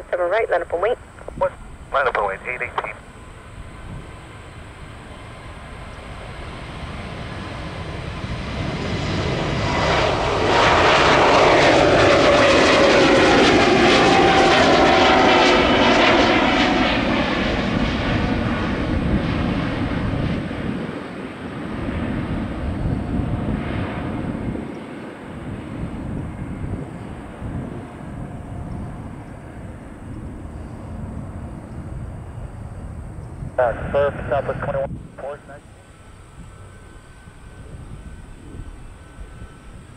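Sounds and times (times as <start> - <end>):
jet airliner passing: 0.0 - 39.9.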